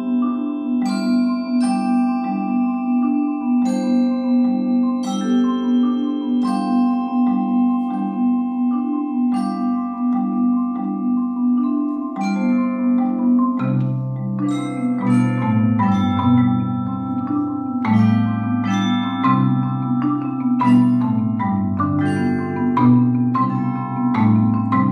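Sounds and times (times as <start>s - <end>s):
marimba ensemble playing: 0.0s - 24.9s.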